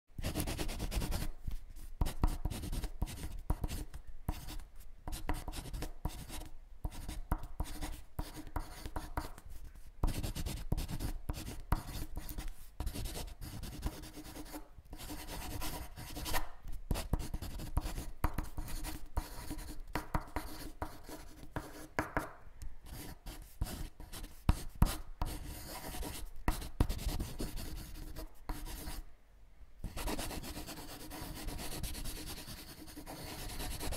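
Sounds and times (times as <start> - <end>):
pen scratching on paper: 0.2 - 22.3, 22.9 - 29.0, 29.8 - 33.9.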